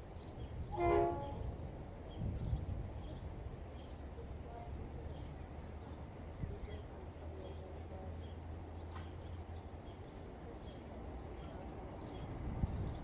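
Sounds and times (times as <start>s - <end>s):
birds chirping: 2.1s - 13.0s.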